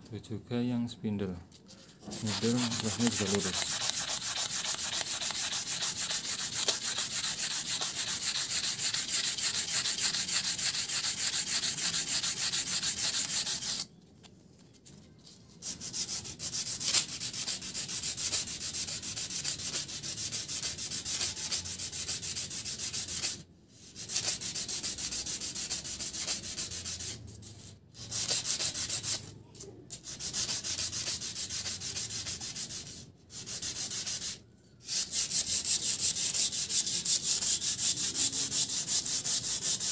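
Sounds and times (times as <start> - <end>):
sandpaper scraping steel rod: 2.0 - 13.9, 15.6 - 29.3, 29.9 - 39.9.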